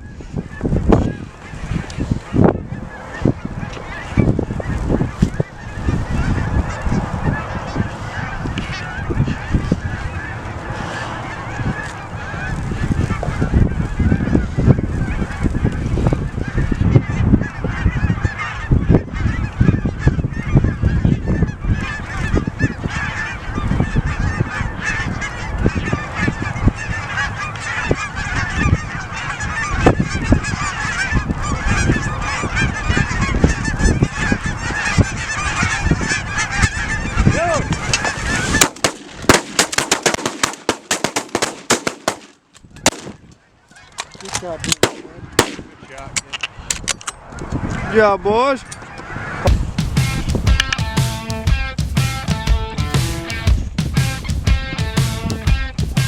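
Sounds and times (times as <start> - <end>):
geese honking: 0.0 - 46.7, 47.5 - 56.0.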